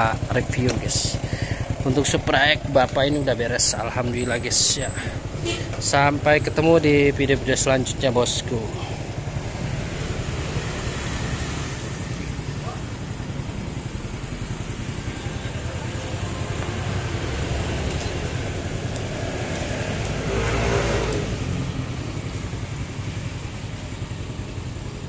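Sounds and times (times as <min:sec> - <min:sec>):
engine revving: 0:00.0 - 0:25.0
motorcycle engine idling: 0:00.0 - 0:25.0.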